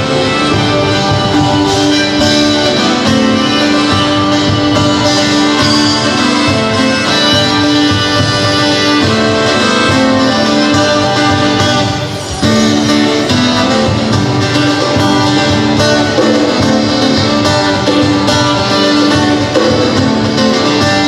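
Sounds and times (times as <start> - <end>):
accordion: 0.0 - 21.0
strummed acoustic guitar: 0.0 - 21.0.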